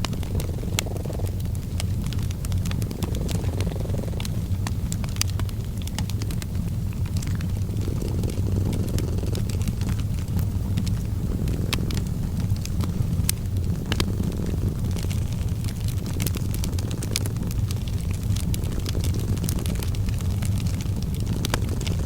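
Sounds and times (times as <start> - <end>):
cat purring: 0.0 - 22.0
fireplace crackling: 0.0 - 22.0.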